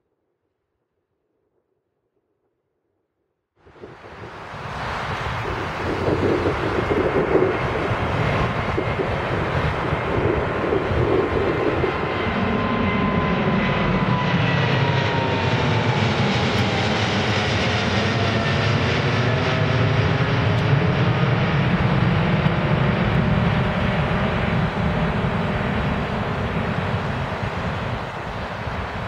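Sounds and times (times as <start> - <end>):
jet engines roaring: 3.6 - 29.0
high engine whine: 3.7 - 29.0.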